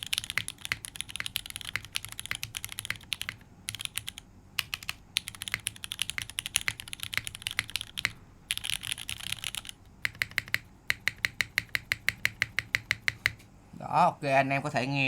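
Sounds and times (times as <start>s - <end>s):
mechanical keyboard typing: 0.0s - 13.4s.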